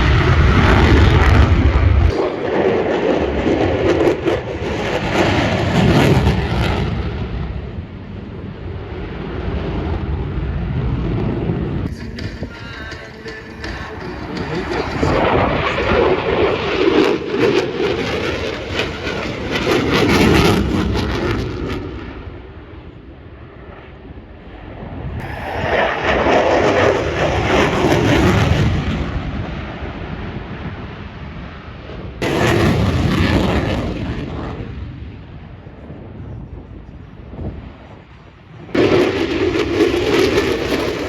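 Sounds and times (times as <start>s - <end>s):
fighter jet roar flying past: 0.0s - 41.0s.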